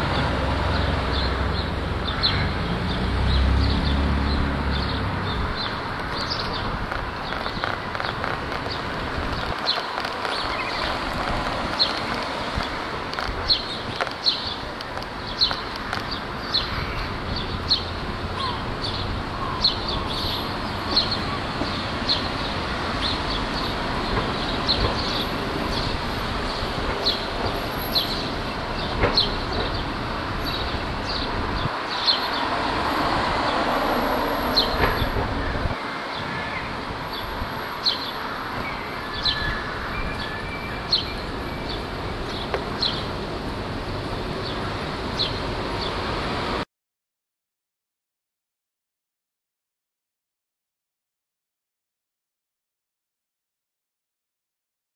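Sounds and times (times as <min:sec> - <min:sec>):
street traffic: 0:00.0 - 0:46.7.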